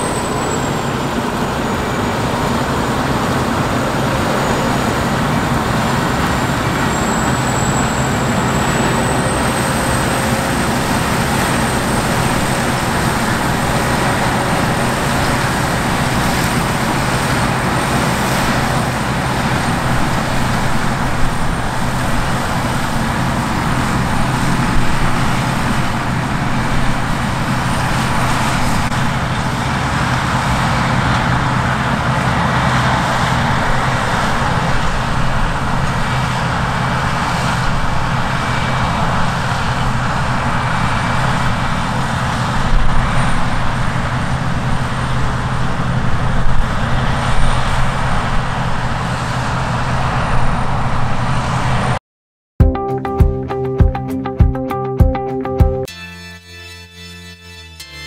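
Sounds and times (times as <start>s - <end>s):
road vehicle hum: 0.0s - 52.0s.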